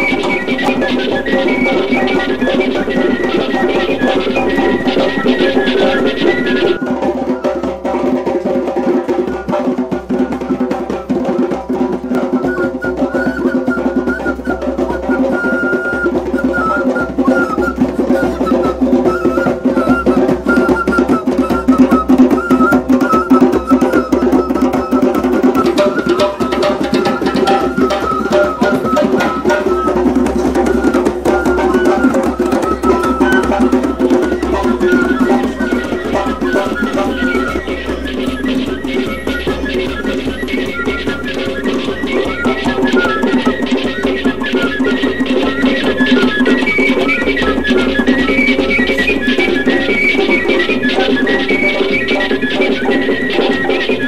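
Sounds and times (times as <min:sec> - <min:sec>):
bamboo fife melody: 0:00.0 - 0:54.0
hand drum rhythm: 0:00.0 - 0:54.0.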